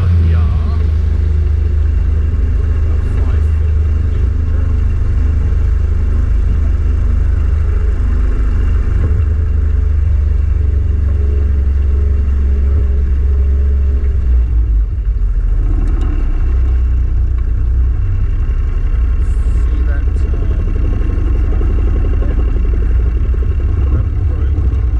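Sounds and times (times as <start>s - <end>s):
boat motor running: 0.0s - 24.9s.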